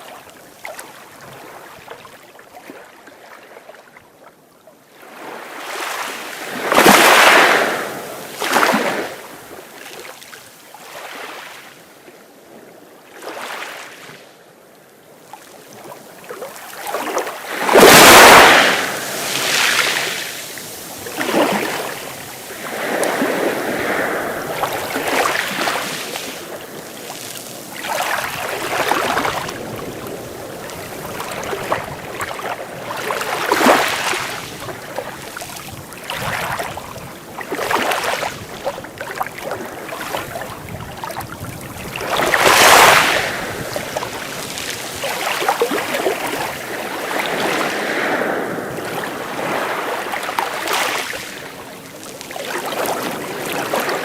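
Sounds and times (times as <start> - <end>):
sea waves breaking: 5.0 - 11.7, 15.4 - 54.0.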